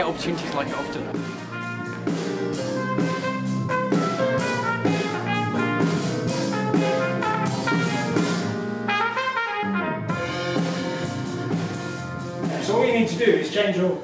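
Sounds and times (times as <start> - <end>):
jazz band with brass: 0.0 - 12.5.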